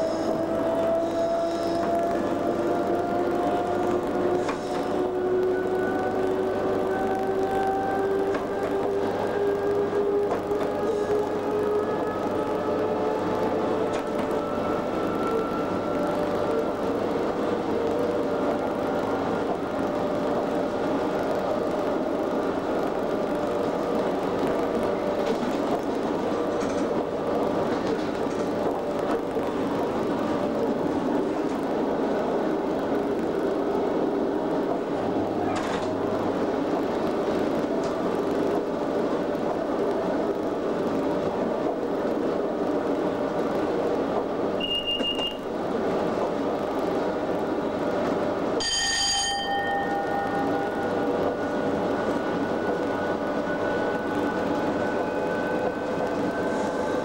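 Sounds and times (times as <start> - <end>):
locomotive hum: 0.0 - 57.0
wheels rumbling on rail: 0.0 - 57.0.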